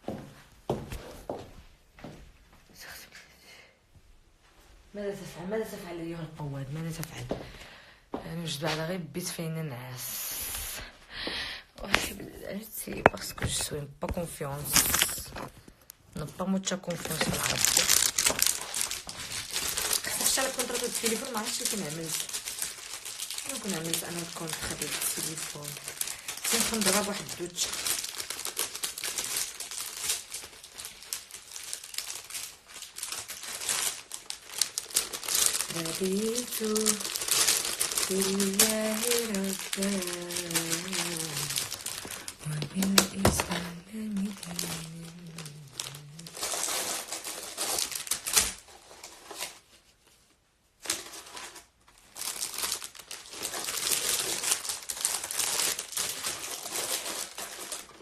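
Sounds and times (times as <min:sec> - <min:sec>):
rustling and crinkling: 0:04.0 - 0:07.6, 0:11.8 - 0:58.0.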